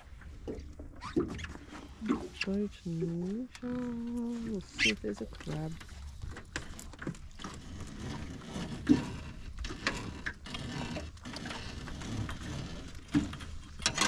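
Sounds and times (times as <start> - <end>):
knocks and creaks: 0.0 - 14.0.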